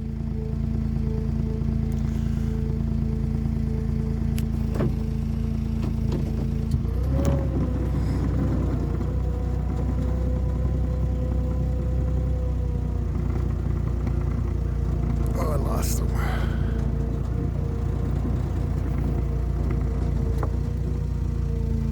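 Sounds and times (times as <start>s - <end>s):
deeper hum: 0.0s - 21.9s
vehicle engine running: 0.0s - 21.9s.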